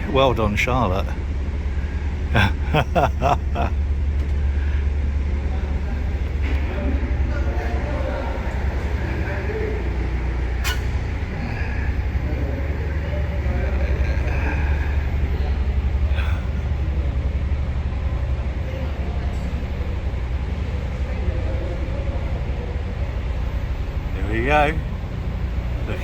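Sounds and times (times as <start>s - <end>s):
diesel engine throbbing: 0.0s - 26.0s.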